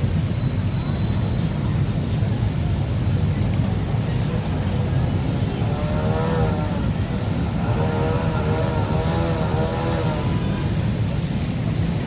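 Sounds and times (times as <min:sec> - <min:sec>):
motorbike engines rumbling: 0:00.0 - 0:12.0.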